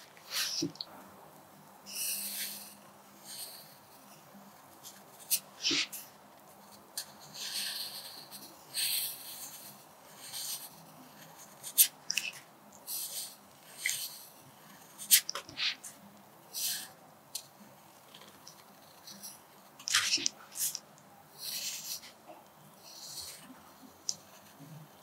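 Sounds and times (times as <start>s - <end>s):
pencil scratching on paper: 1.9s - 20.8s, 21.4s - 22.2s, 22.8s - 25.0s.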